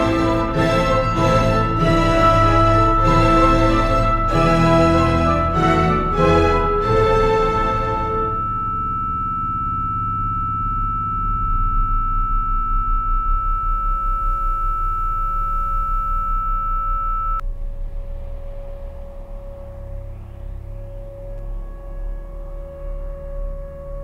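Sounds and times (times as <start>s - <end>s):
high pure tone: 0.0s - 24.0s
low pulsing drone: 0.0s - 24.0s
lower tone: 0.0s - 24.0s.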